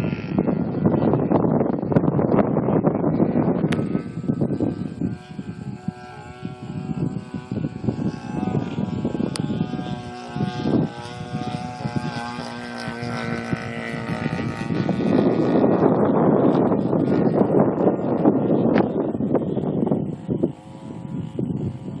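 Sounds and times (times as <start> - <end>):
model plane engine running: 0.0 - 22.0
wind buffeting microphone: 0.0 - 22.0.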